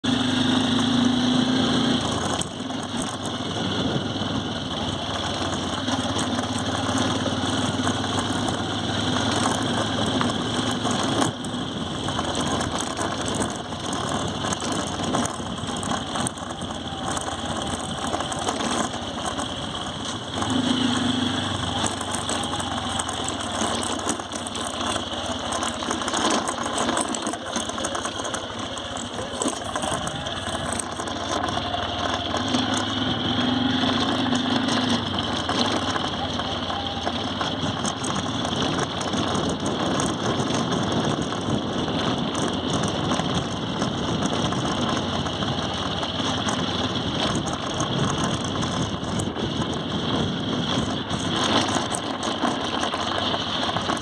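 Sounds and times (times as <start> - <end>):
motorcycle engine running: 0.0 - 54.0
motorcycle rattling over bumps: 0.0 - 54.0.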